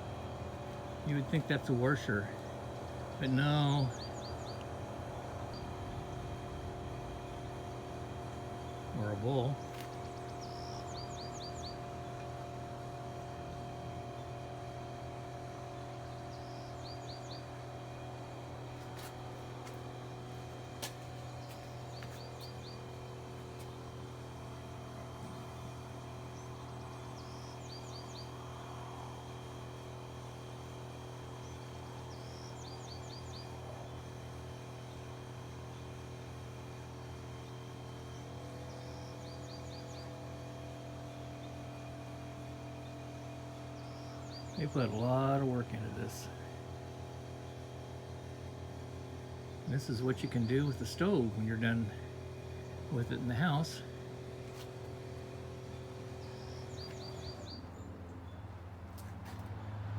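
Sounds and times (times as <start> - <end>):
mechanical hum with held tones: 0.0 - 59.9.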